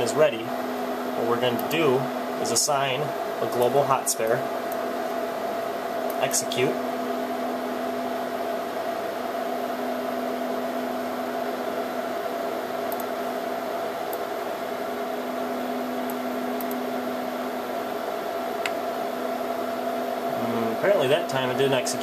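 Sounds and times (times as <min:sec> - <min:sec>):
server cooling fans whirring: 0:00.0 - 0:22.0.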